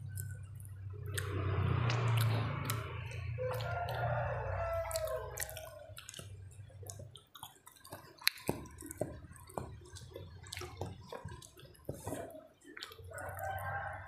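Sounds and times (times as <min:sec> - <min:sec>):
person chewing wetly: 0:00.0 - 0:14.0.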